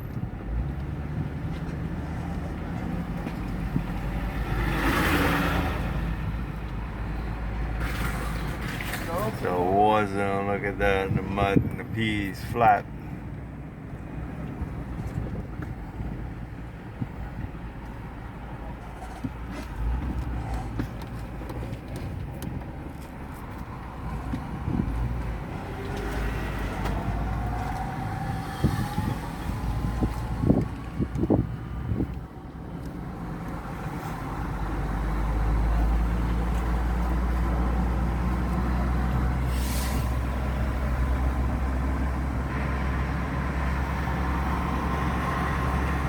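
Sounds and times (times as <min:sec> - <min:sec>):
tyre and road noise: 0:00.0 - 0:46.0.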